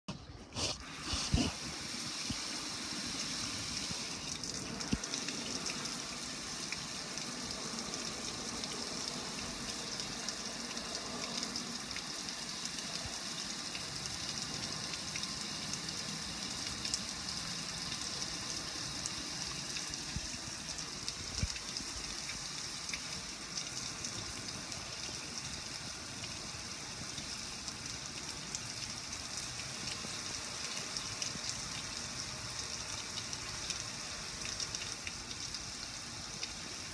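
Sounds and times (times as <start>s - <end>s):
water splattering off a grill: 2.0s - 36.9s.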